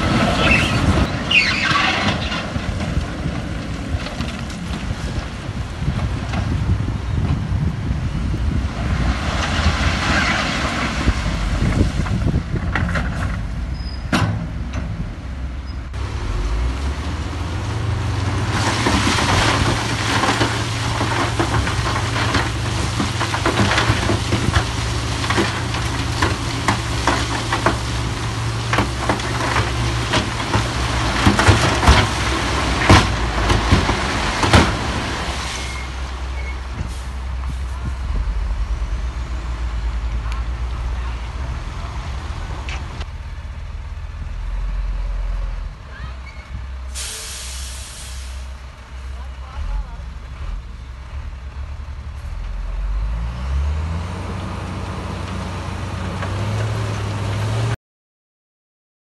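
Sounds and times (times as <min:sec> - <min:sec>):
heavy machinery diesel engine: 0:00.0 - 0:57.8.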